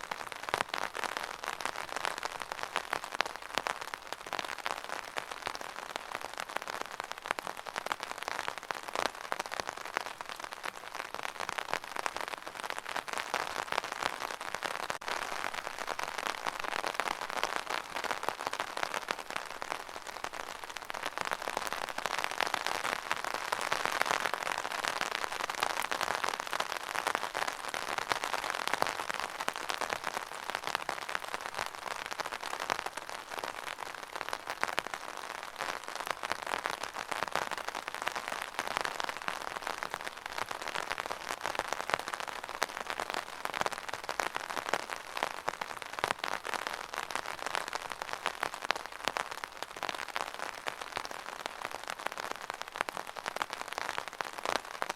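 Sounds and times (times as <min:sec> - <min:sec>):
rain on hard surface: 0:00.0 - 0:54.9.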